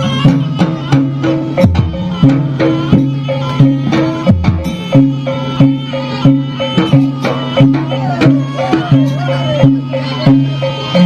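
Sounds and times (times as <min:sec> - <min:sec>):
hand drum strokes: 0:00.0 - 0:11.0
wavering melody: 0:00.0 - 0:11.0.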